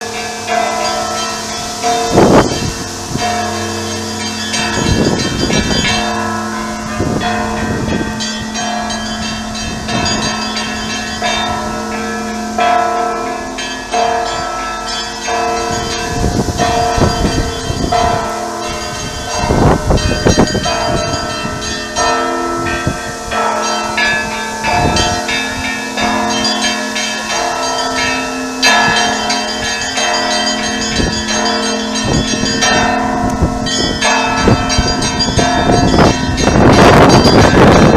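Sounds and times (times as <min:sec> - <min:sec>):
church bells pealing: 0:00.0 - 0:37.9
deep bell hum: 0:00.2 - 0:37.9.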